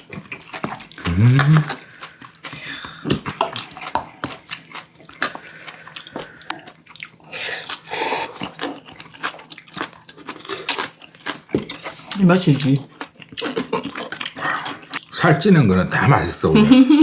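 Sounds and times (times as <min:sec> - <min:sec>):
chewing and biting: 0:00.0 - 0:15.1.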